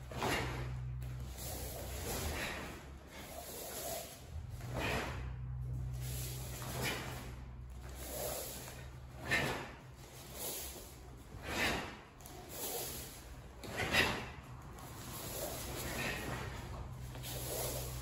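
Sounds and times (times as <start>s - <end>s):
karate uniforms swishing: 0.0s - 18.0s
low steady hum: 0.0s - 18.0s.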